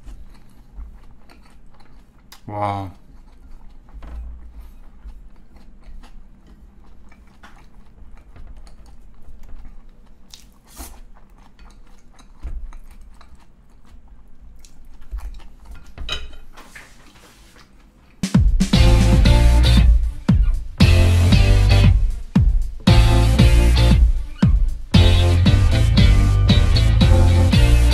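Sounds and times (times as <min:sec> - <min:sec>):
person chewing food: 0:00.0 - 0:27.7.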